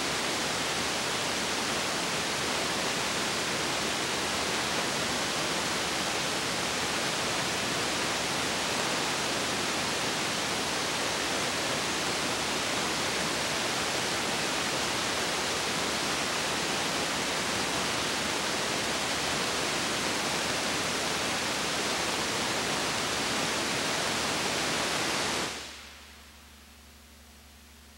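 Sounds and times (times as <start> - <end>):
film transfer hiss: 0.0 - 26.1.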